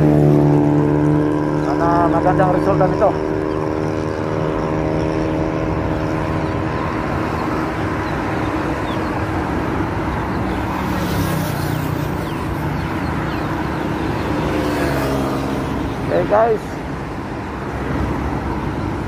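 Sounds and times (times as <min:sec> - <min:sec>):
road noise rushing: 0:00.0 - 0:19.0
vehicle engine hum: 0:00.0 - 0:19.0
vehicle passing: 0:00.0 - 0:19.0.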